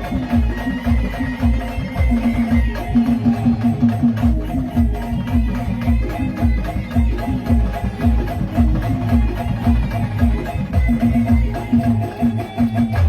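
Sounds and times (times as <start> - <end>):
fast drum beat: 0.0 - 13.0
repeating instrumental melody: 0.0 - 13.0.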